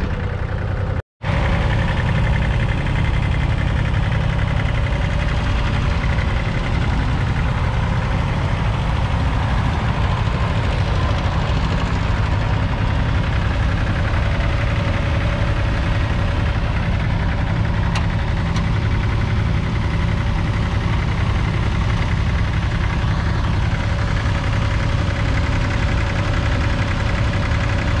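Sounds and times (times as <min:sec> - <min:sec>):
diesel tractor engine under load: 0:00.0 - 0:28.0.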